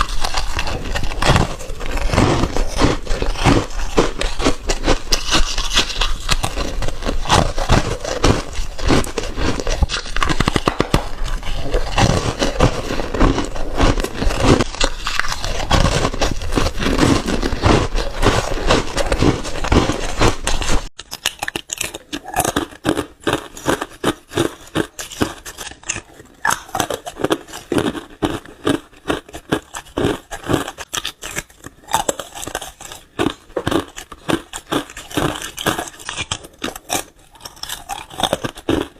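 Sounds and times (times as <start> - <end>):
ice being crunched by chewing: 0.0 - 38.9.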